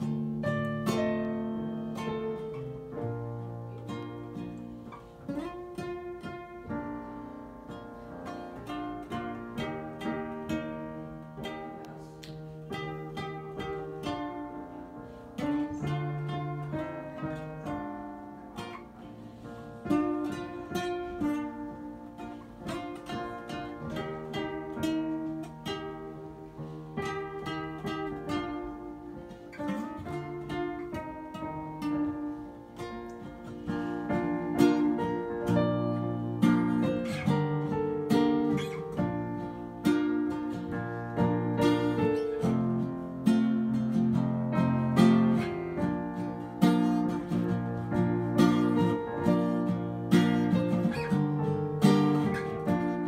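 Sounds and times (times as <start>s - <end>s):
acoustic guitar: 0.0s - 53.0s
piano: 0.0s - 53.0s.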